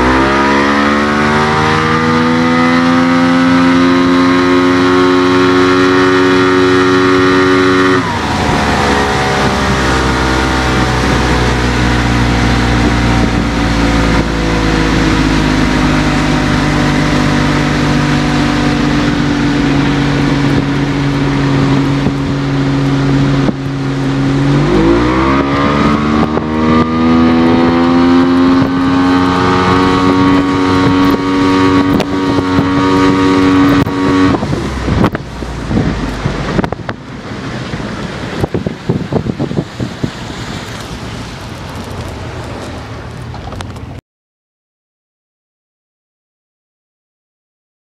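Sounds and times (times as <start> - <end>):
outboard motor running: 0.0 - 44.0
rushing water: 0.0 - 44.0
rushing wind: 0.0 - 44.0.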